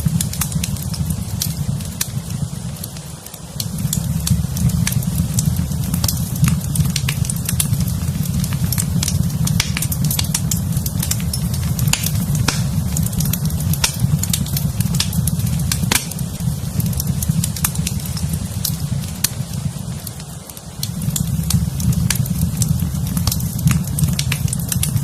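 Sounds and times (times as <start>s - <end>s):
fire crackling and popping: 0.0s - 25.0s
steady low rumble: 0.0s - 25.0s.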